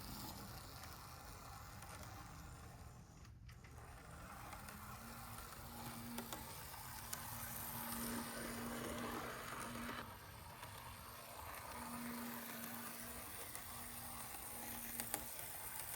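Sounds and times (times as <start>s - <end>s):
model train wheels rattling: 0.0s - 15.9s
small electric motor humming: 0.0s - 15.9s.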